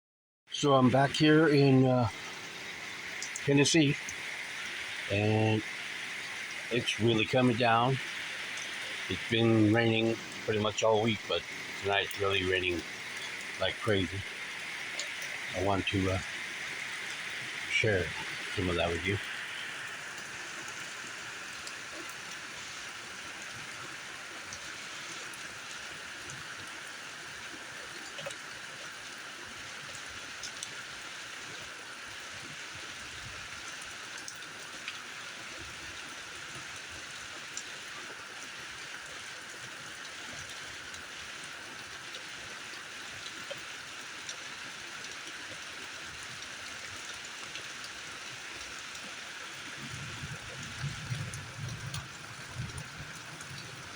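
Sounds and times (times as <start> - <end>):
heavy rain pouring: 0.6 - 53.9.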